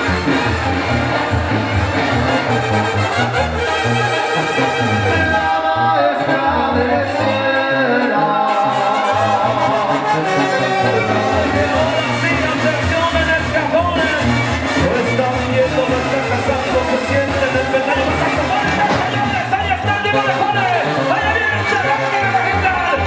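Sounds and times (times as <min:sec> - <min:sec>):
latin brass band music: 0:00.0 - 0:23.0.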